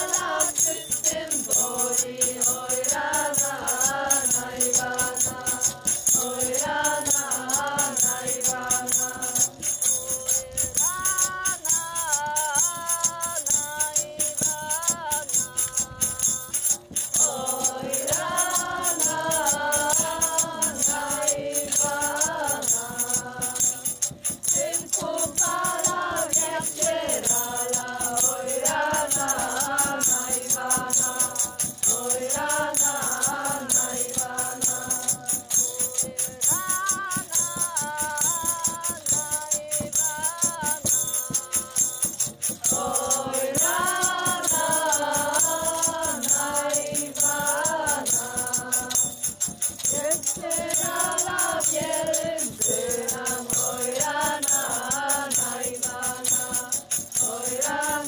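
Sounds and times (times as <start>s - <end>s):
rattling percussion beat: 0.0s - 58.0s
voices singing together: 0.0s - 58.0s.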